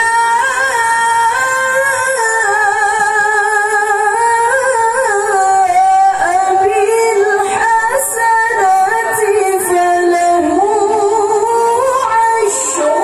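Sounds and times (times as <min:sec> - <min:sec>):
woman reciting melodically: 0:00.0 - 0:13.0.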